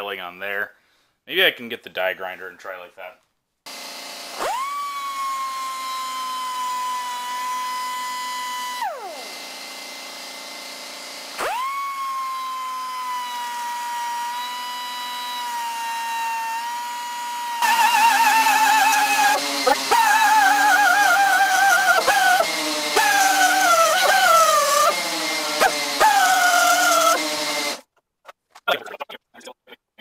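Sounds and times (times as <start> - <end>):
die grinder whining: 3.7 - 27.9.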